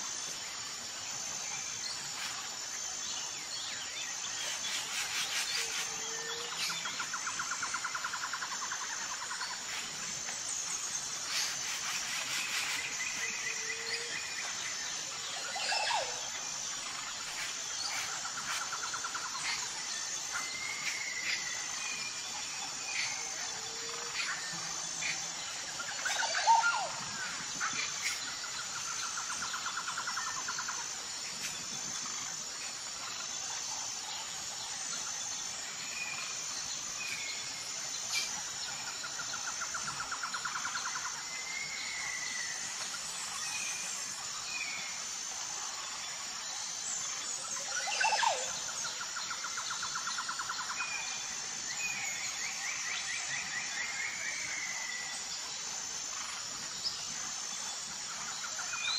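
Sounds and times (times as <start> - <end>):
insects chorus: 0.0 - 58.9.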